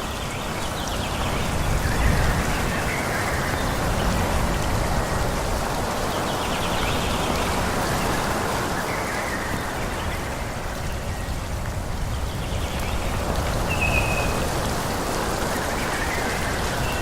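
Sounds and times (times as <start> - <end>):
wind rushing through trees: 0.0 - 17.0.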